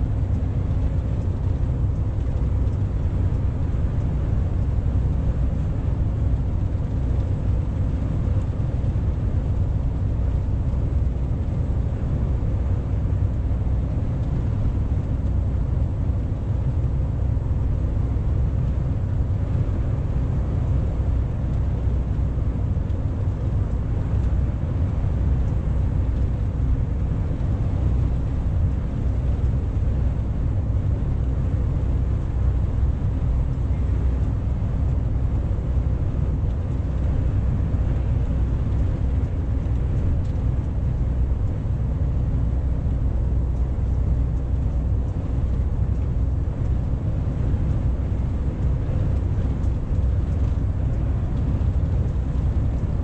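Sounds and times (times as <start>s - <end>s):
truck engine drone and road rumble: 0.0s - 53.0s.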